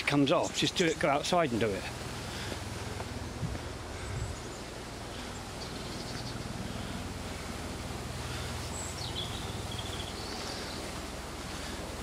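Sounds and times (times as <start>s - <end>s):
birds calling: 0.0s - 12.0s
steady low rumble: 0.0s - 12.0s.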